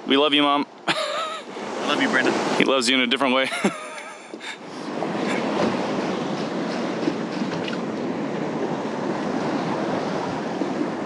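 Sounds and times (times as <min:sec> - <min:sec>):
sea surf against rocks: 0:00.0 - 0:11.0.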